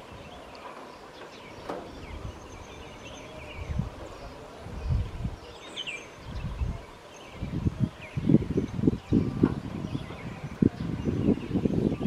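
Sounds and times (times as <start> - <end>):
small birds chirping: 0.0 - 12.0
wind buffeting microphone: 0.0 - 12.0.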